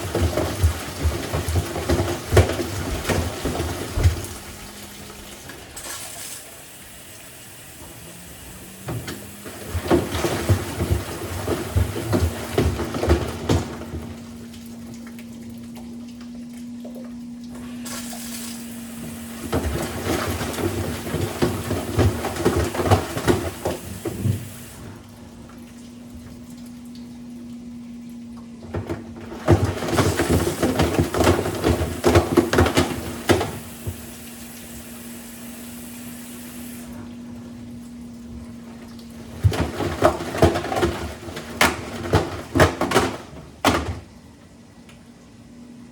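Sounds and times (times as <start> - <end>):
water sloshing with knocks: 0.0 - 6.7, 7.8 - 44.4
washing machine hum: 0.0 - 45.9.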